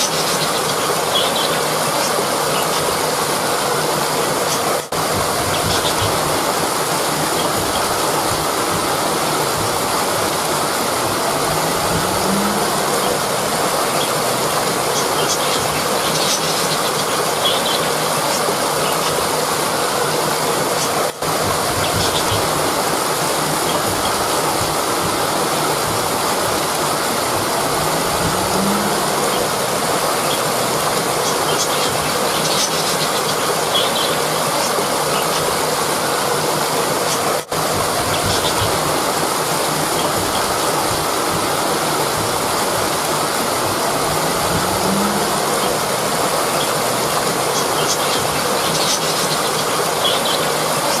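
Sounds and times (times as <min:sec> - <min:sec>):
rushing river water: 0:00.0 - 0:51.0.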